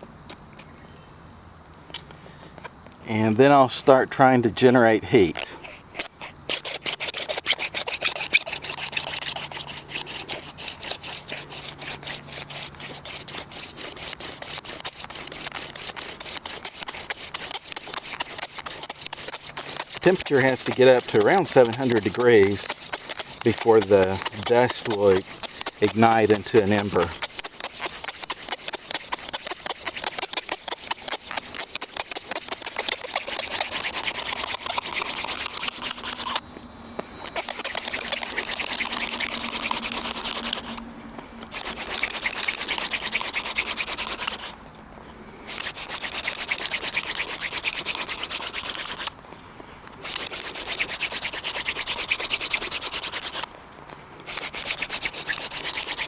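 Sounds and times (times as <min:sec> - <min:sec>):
wooden hand drill rubbing: 0:05.3 - 0:36.4, 0:37.2 - 0:40.8, 0:41.4 - 0:44.6, 0:45.5 - 0:49.2, 0:49.9 - 0:53.5, 0:54.2 - 0:56.0.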